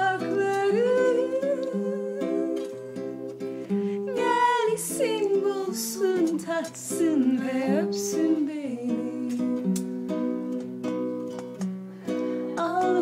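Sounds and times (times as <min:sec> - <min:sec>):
person singing: 0:00.0 - 0:09.8, 0:12.4 - 0:13.0
plucked acoustic strings: 0:00.0 - 0:13.0.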